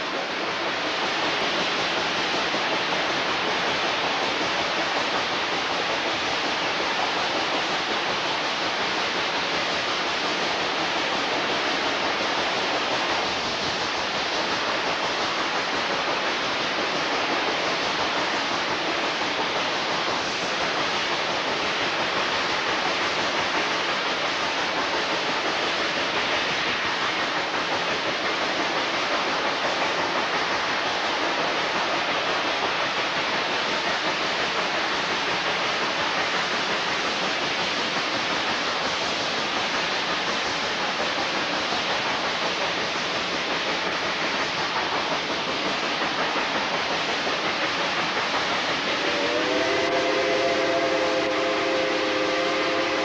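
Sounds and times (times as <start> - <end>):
train running noise: 0.0 - 53.0.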